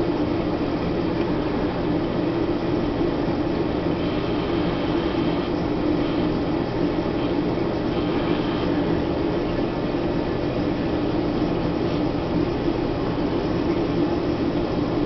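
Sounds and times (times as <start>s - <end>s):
aquarium pumps droning: 0.0s - 15.0s
circulating water: 0.0s - 15.0s.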